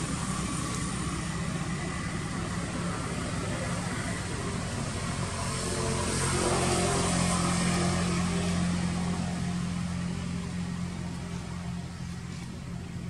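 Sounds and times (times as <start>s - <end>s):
motor engine droning: 0.0s - 13.0s.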